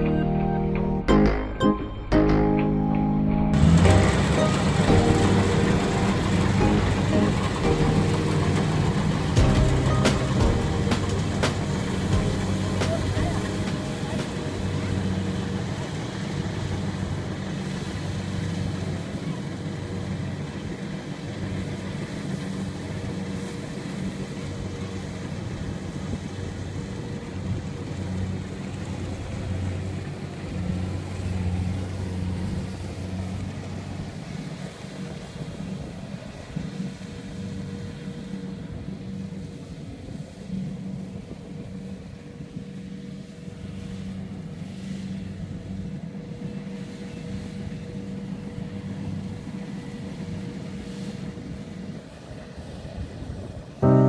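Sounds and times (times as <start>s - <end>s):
combine harvester engine droning: 0.0s - 54.0s.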